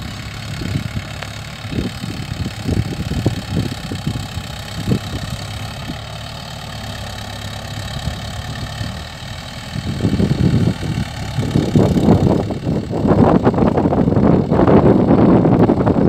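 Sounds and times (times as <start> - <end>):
wind rumbling on microphone: 0.0 - 6.3, 7.0 - 16.0
tractor diesel engine running: 0.0 - 16.0.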